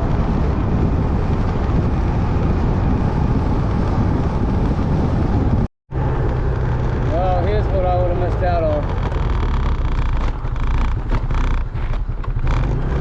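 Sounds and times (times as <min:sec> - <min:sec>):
motorcycle engine cruising: 0:00.0 - 0:13.0
wind rushing over microphone: 0:00.0 - 0:13.0.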